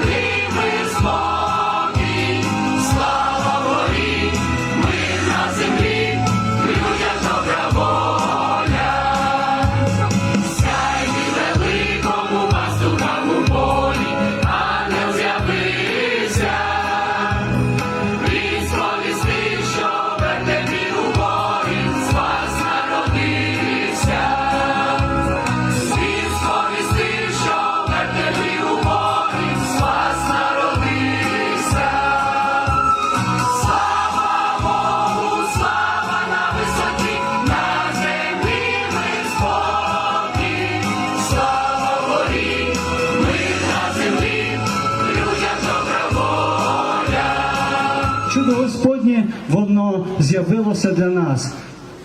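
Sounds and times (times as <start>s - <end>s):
choir singing a carol: 0.0s - 48.4s
accompaniment with steady beat: 0.0s - 48.7s.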